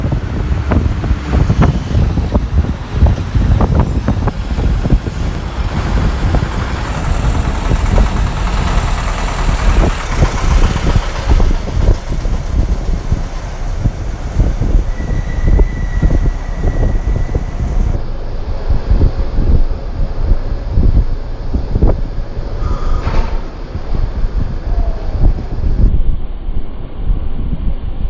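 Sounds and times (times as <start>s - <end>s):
motor vehicles rumbling: 0.0s - 28.0s.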